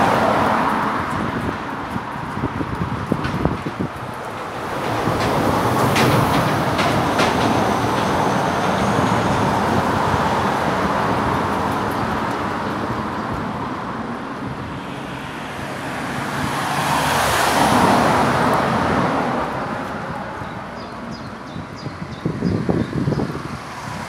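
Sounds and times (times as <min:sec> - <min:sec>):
road traffic rushing: 0:00.0 - 0:24.0.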